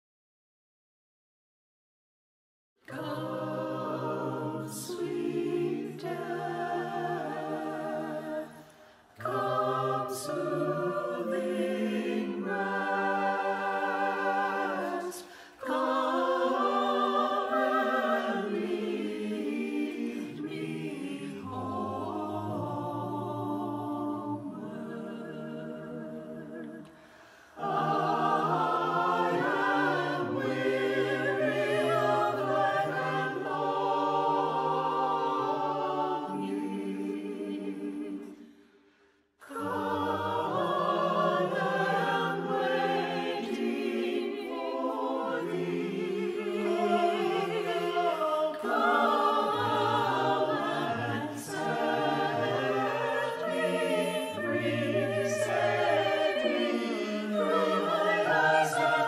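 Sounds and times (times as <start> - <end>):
mixed choir singing: 2.8 - 38.8, 39.4 - 59.0.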